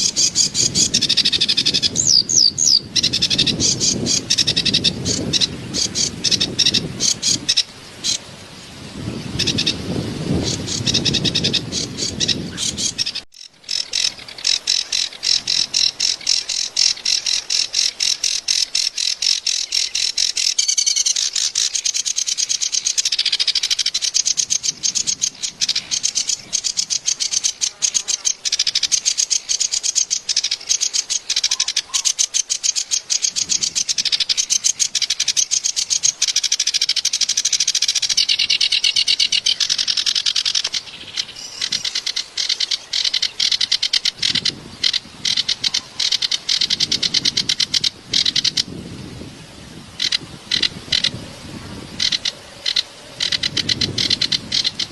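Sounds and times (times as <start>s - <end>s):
reed warbler singing: 0.0s - 54.9s.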